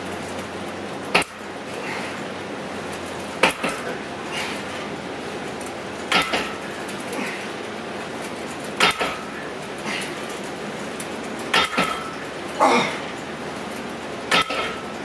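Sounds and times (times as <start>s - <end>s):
cable machine clanking: 0.0s - 15.0s.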